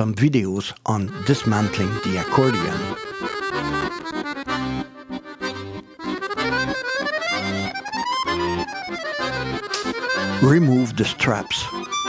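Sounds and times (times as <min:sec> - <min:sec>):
accordion music: 0:00.9 - 0:12.0.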